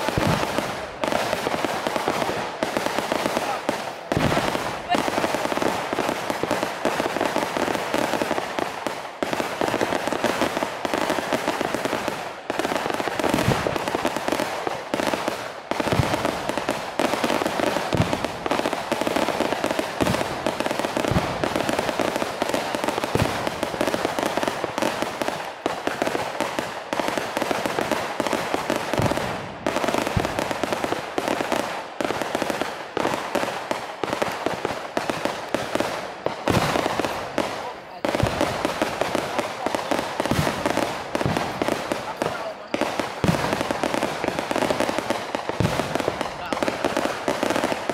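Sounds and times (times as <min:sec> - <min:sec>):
heavier firecracker bangs: 0:00.0 - 0:09.0, 0:09.6 - 0:31.2, 0:34.4 - 0:47.9
firecrackers crackling: 0:00.0 - 0:47.9.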